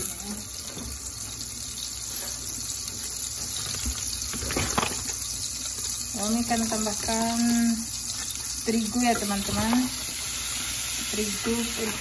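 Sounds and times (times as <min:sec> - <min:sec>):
butter sizzling in a pot: 0:00.0 - 0:12.0.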